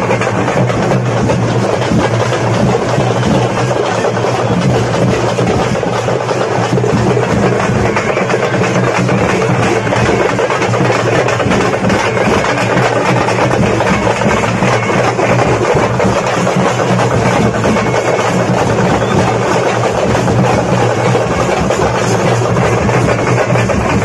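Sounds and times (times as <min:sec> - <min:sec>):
drums beating: 0:00.0 - 0:24.0
large crowd din: 0:00.0 - 0:24.0.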